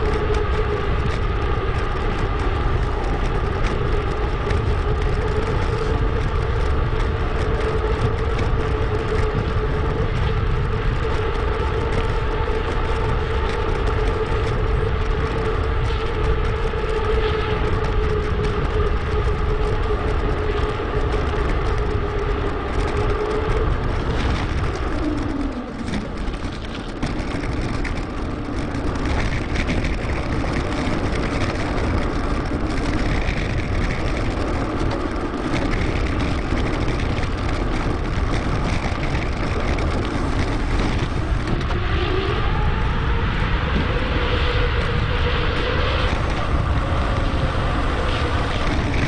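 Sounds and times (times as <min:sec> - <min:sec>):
bike tyre noise: 0:00.0 - 0:49.0
wind noise: 0:00.0 - 0:49.0.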